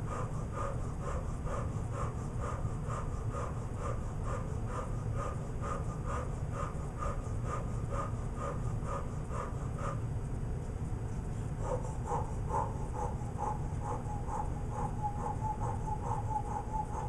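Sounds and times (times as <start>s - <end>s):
rapid forceful breathing: 0.0s - 17.0s.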